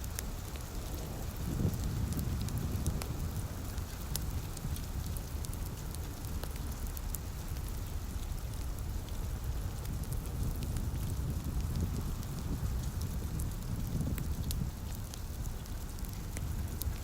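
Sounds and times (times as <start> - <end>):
light rain: 0.0 - 17.0
wood fire crackling: 0.0 - 17.0.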